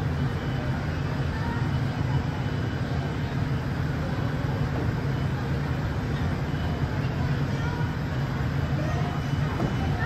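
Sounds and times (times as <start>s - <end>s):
fans running with rush of air: 0.0s - 10.0s.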